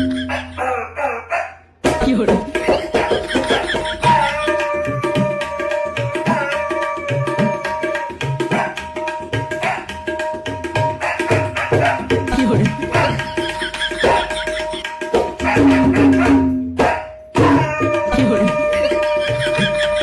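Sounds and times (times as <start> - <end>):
tabla drum strokes: 1.8 - 20.0.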